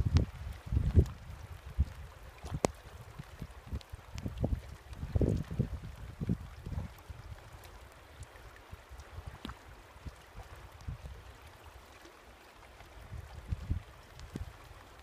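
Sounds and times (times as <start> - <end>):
water lapping against rock: 0.0 - 15.0.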